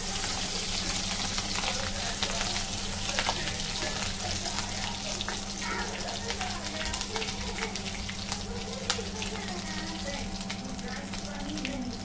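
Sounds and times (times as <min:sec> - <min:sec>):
roe sizzling in hot oil: 0:00.0 - 0:12.0
spatula in a wok: 0:00.0 - 0:12.0.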